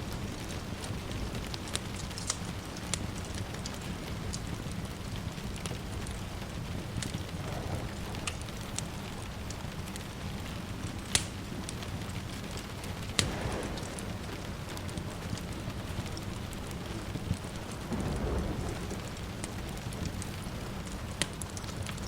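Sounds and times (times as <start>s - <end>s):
rain hissing: 0.0s - 22.0s
wood fire crackling: 0.0s - 22.0s.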